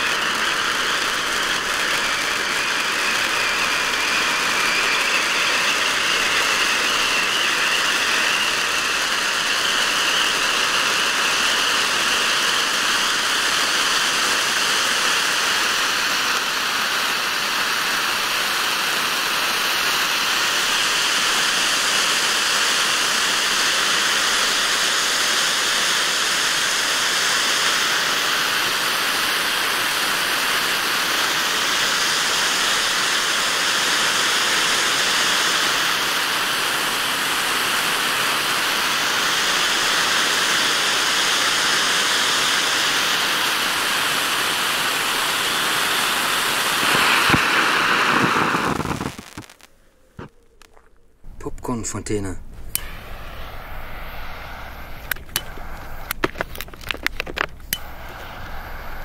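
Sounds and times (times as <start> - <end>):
firework fountain hissing: 0.0 - 59.0.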